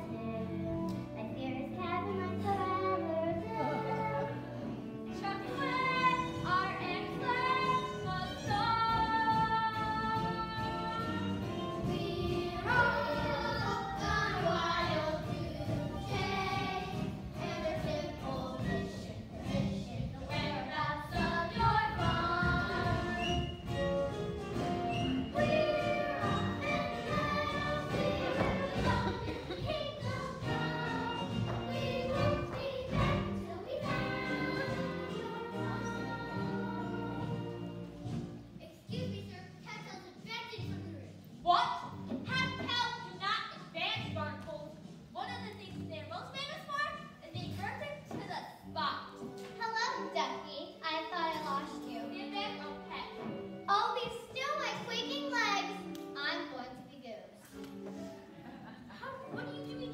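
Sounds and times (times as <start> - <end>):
children singing with music: 0.0 - 59.9.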